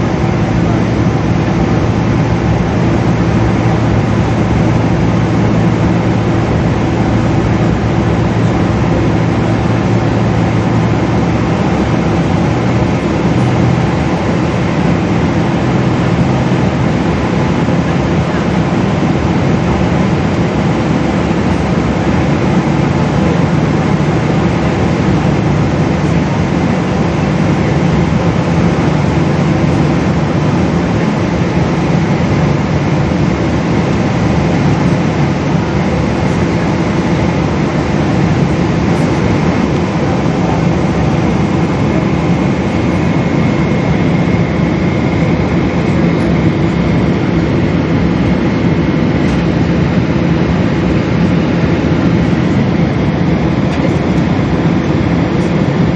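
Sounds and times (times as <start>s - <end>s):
jet engine cabin noise: 0.0s - 55.9s.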